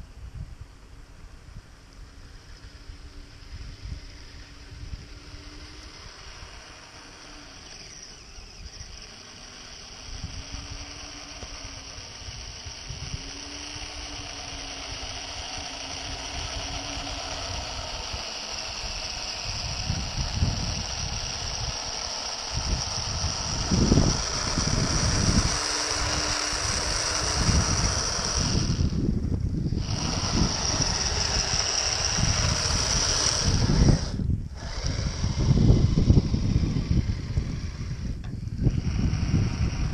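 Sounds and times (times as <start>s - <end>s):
wind buffeting microphone: 0.0s - 39.9s
high electric motor whine: 1.3s - 39.9s
rc snowcat on metal tracks: 1.3s - 39.9s.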